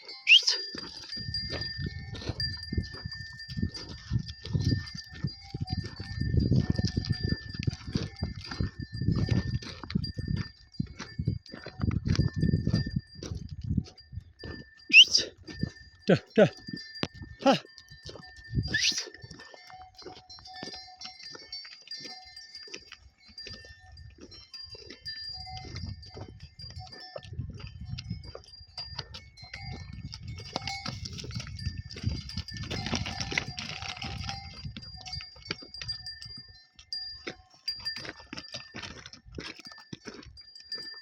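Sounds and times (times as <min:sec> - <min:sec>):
livestock bells clinking: 0:00.0 - 0:41.0.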